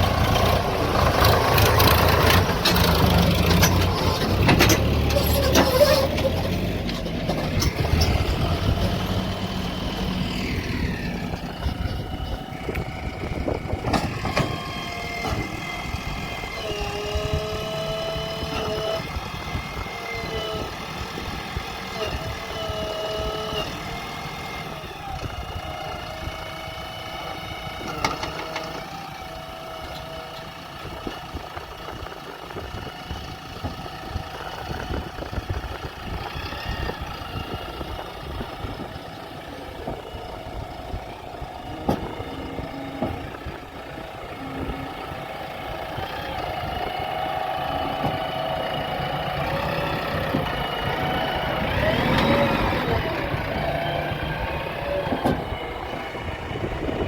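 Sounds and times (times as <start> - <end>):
backhoe diesel engine running: 0.0 - 57.0.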